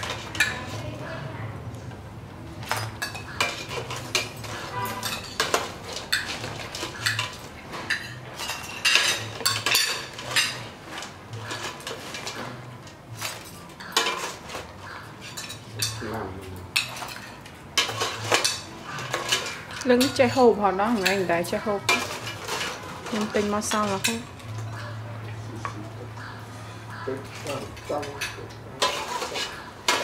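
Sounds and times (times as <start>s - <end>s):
metal ladle scraping in a pot: 3.0s - 16.0s, 16.8s - 25.0s, 26.5s - 30.0s.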